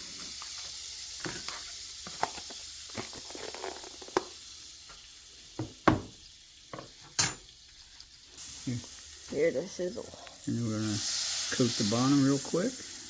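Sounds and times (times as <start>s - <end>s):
butter sizzling in a frying pan: 0.0s - 13.0s.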